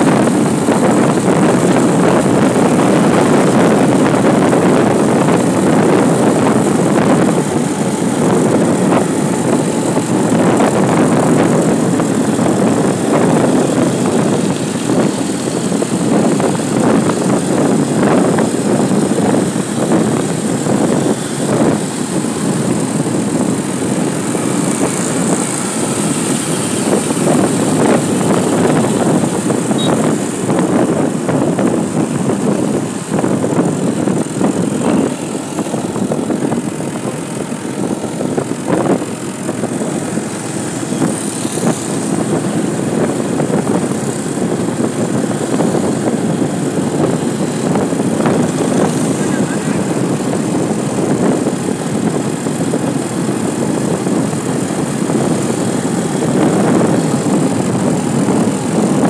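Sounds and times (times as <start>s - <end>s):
vehicle engine running: 0.0s - 59.0s
wind buffeting the microphone: 0.0s - 59.0s.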